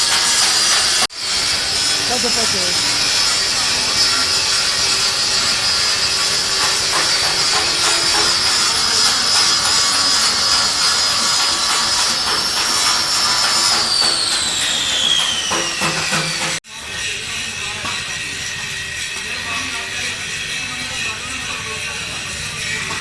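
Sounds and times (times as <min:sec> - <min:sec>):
power grinder whining: 0:00.0 - 0:23.0.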